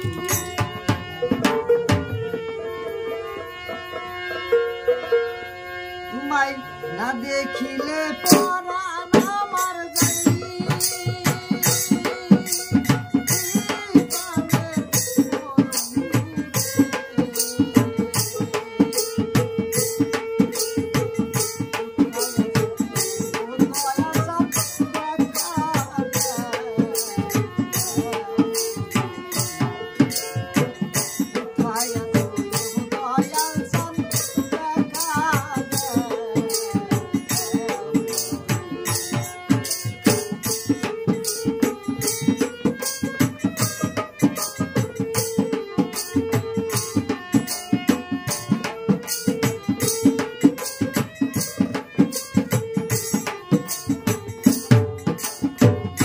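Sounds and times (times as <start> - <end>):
barrel drum beat: 0.0 - 2.6, 8.2 - 56.0
harmonium melody: 0.0 - 56.0.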